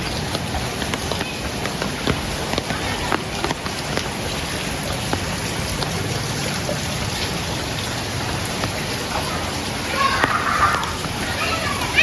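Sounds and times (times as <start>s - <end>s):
rain falling: 0.0s - 12.0s
raindrop ticks: 0.0s - 12.0s.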